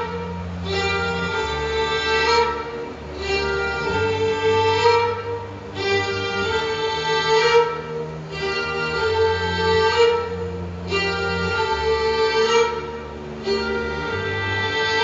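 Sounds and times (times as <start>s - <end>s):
bowed strings playing chords: 0.0s - 15.0s
sustained low bass line: 0.0s - 15.0s.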